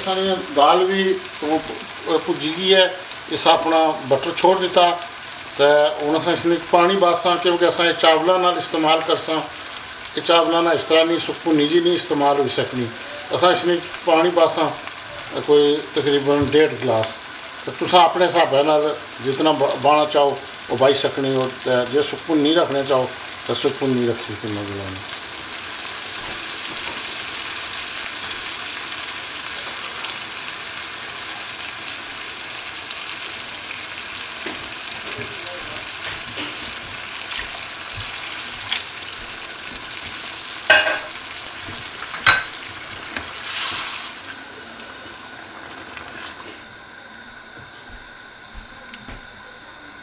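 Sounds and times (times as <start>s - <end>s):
curry sizzling in a frying pan: 0.0s - 50.0s.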